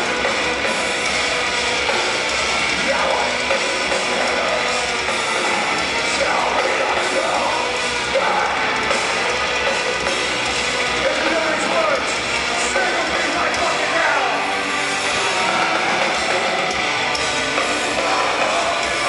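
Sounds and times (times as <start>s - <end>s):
distorted guitars: 0.0s - 19.0s
drum kit: 0.0s - 19.0s.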